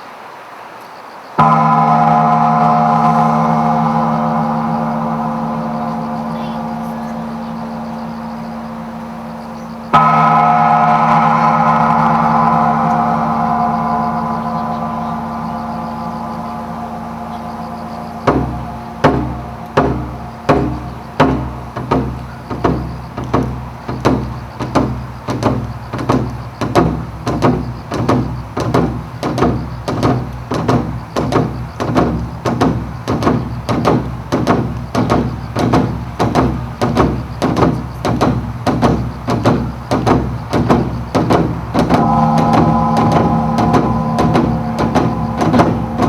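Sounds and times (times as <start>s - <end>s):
deep drum beat: 1.4s - 46.0s.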